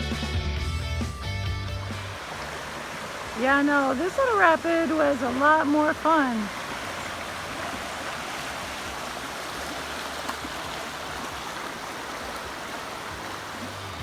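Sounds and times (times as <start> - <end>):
water rushing over rapids: 1.8 - 14.0.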